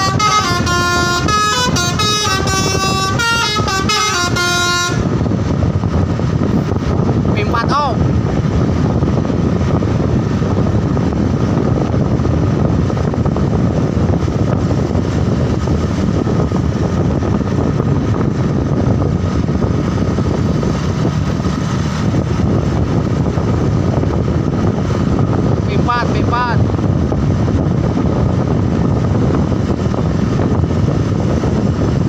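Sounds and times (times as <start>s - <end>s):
road noise: 0.0s - 32.0s
vehicle engine: 0.0s - 32.0s.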